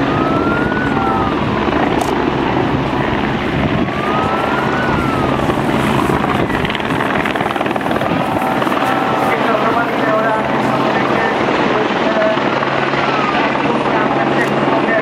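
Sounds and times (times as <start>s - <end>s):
helicopter running: 0.0s - 15.0s
siren wailing: 0.0s - 15.0s.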